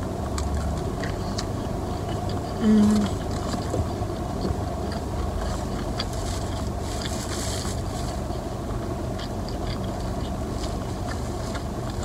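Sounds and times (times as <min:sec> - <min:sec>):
person chewing food: 0:00.3 - 0:08.5, 0:09.1 - 0:12.0.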